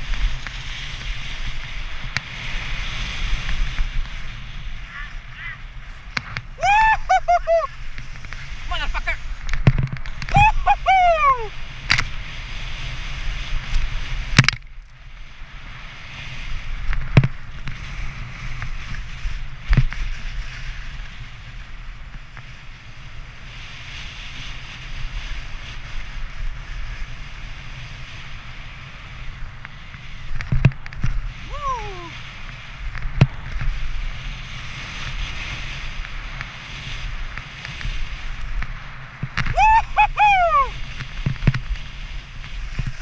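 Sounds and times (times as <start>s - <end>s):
skis running over snow: 0.0s - 14.4s, 15.2s - 43.0s
wind buffeting camera: 0.0s - 43.0s.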